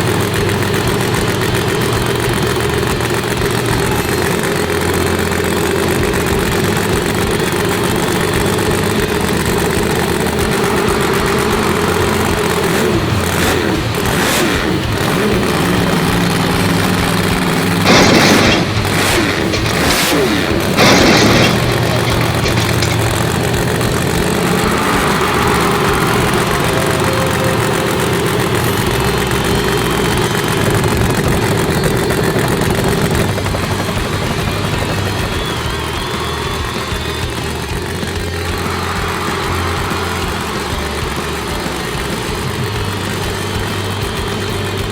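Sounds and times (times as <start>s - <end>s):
loud rushing bursts: 0.0s - 44.9s
truck engine revving: 0.0s - 44.9s.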